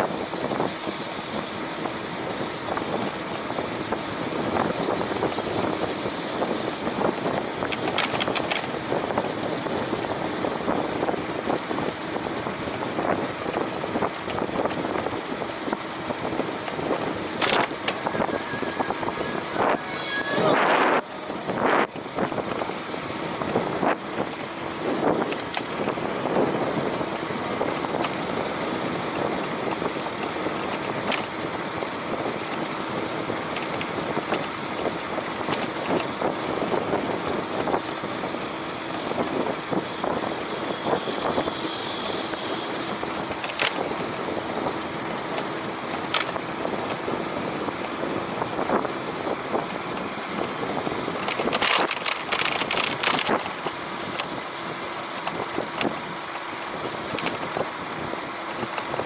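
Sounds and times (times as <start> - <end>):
bicycle tyre noise: 0.0 - 59.0
rushing wind: 0.0 - 59.0
thin high-pitched whine: 0.0 - 59.0.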